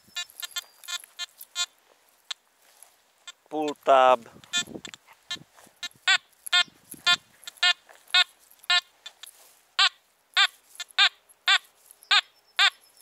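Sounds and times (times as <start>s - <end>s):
metal detector short beeps: 0.0s - 2.4s, 4.4s - 13.0s.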